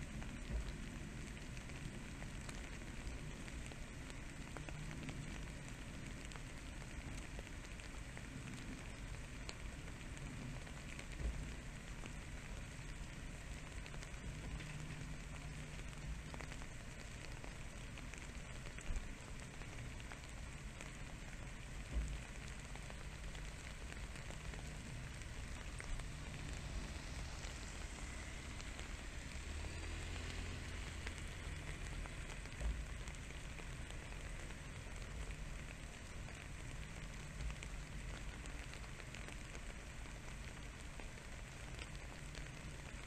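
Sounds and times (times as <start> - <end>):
faint crackling patter: 0.0 - 43.0.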